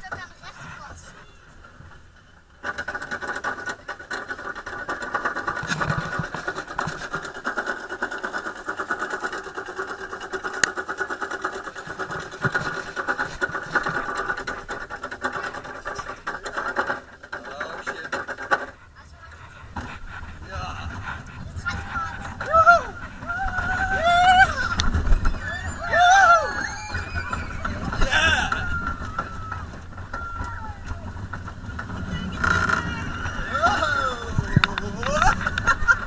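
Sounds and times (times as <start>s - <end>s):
amusement ride mechanical rattling: 0.0s - 36.0s.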